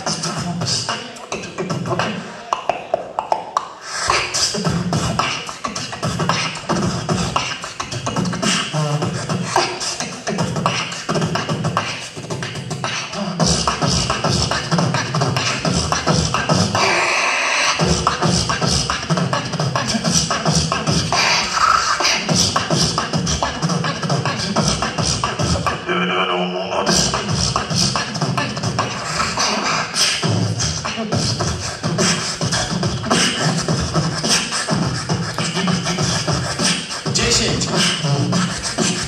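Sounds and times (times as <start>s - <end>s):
person beatboxing: 0.0s - 39.0s.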